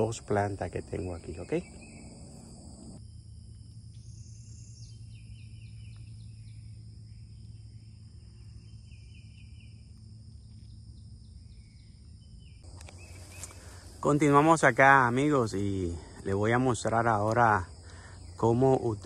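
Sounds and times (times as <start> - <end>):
low steady hum: 0.0 - 18.8
insect chirps: 0.0 - 19.0
insects trilling: 0.0 - 19.0.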